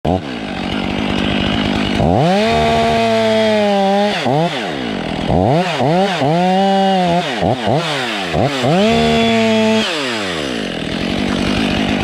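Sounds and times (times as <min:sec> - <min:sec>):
chainsaw idling and revving: 0:00.1 - 0:12.0.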